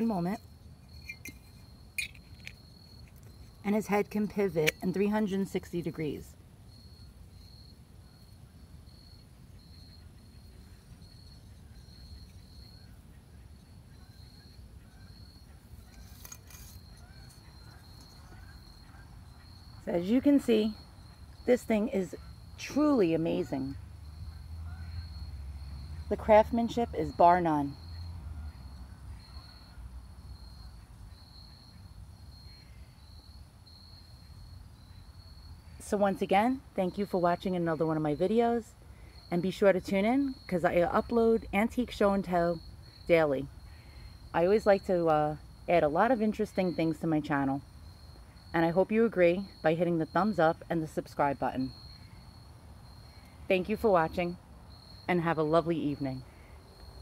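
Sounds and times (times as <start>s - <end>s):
insect chirping trill: 0.0s - 57.0s.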